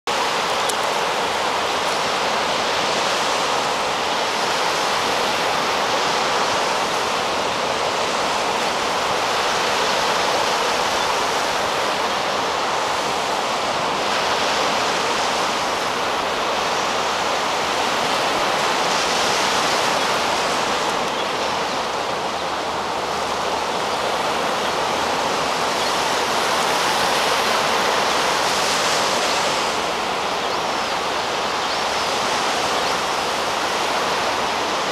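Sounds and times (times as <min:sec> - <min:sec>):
surf breaking on beach: 0:00.1 - 0:34.9.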